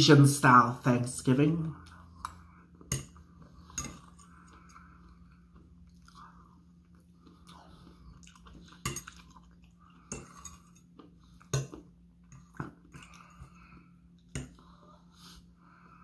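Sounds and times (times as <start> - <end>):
chewing food: 1.8 - 14.8.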